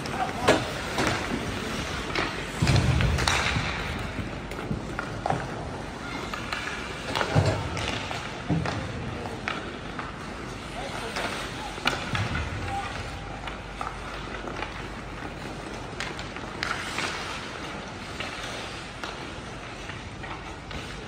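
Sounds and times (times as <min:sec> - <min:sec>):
hockey sticks clacking on puck: 0:00.0 - 0:21.0
skates scraping on ice: 0:00.0 - 0:21.0.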